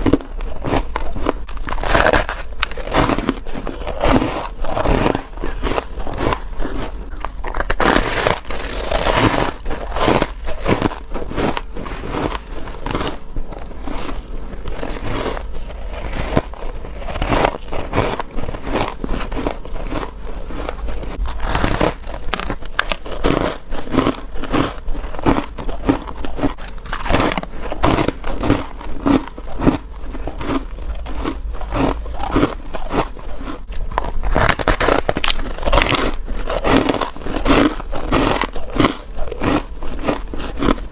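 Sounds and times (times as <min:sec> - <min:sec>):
squeaky crispy crunching of frost: 0:00.0 - 0:40.9.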